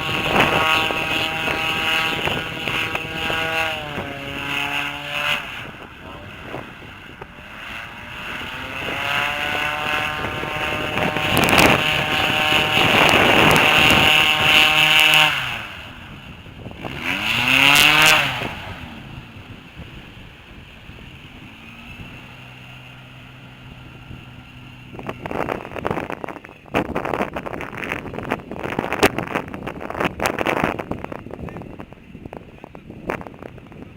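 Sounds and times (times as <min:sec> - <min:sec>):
airboat engine revving: 0:00.0 - 0:33.9
wind buffeting microphone: 0:00.0 - 0:33.9.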